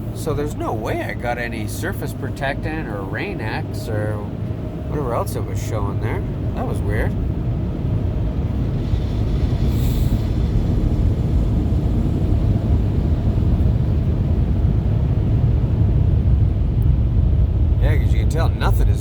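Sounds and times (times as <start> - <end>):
low rumble inside car: 0.0 - 19.0.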